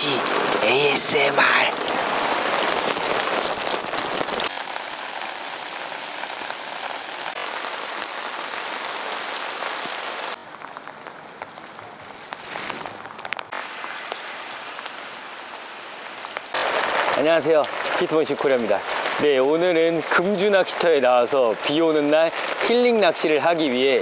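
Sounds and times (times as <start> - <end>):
rain pattering on water: 0.0 - 24.0
sharp water drips: 0.0 - 24.0.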